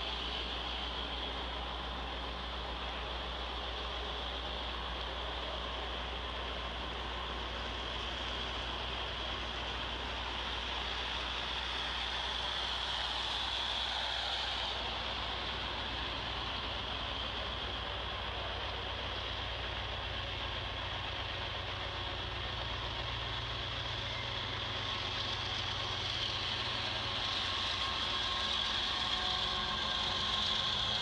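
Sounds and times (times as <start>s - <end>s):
locomotive engine hum: 0.0s - 31.0s.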